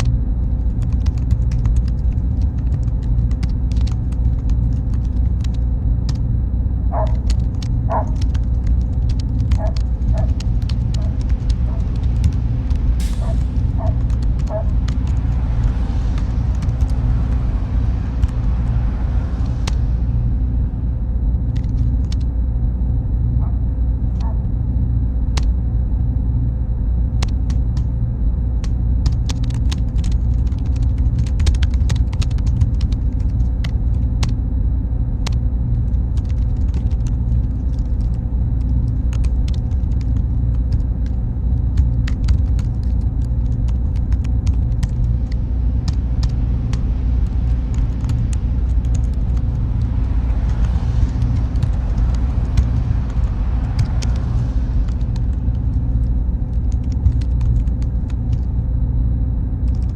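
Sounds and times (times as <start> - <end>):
server room machine rumble: 0.0 - 59.9.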